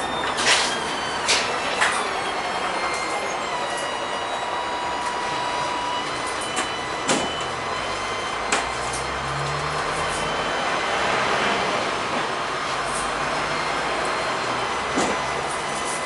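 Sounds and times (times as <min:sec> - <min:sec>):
tram rolling rumble: 0:00.0 - 0:16.0.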